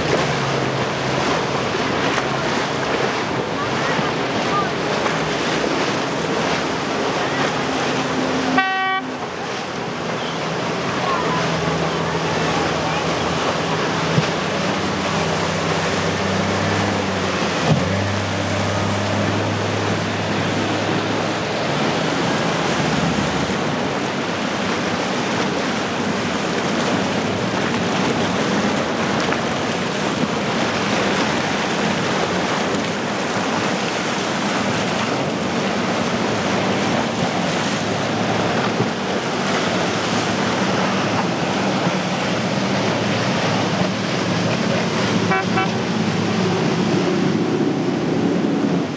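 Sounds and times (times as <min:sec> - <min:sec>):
motorboat engine drone: 0:00.0 - 0:48.9
rushing water: 0:00.0 - 0:48.9
wind: 0:00.0 - 0:48.9.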